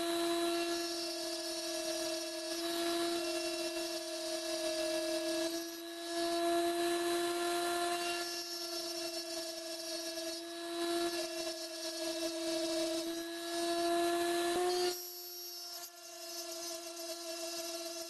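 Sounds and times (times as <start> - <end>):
rotary tool high whine: 0.0 - 18.0.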